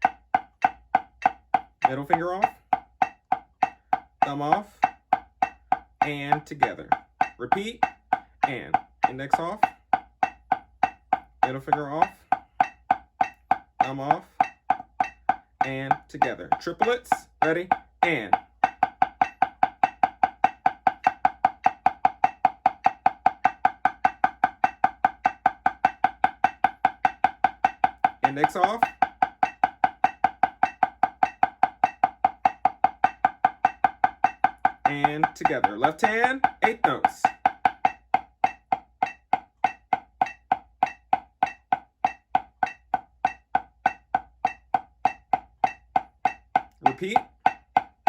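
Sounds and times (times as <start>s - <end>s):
drumstick strokes ringing: 0.0s - 48.0s.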